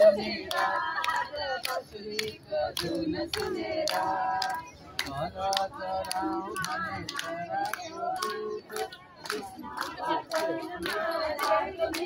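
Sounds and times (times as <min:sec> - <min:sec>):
crowd singing: 0:00.0 - 0:12.0
hand claps: 0:00.0 - 0:12.0.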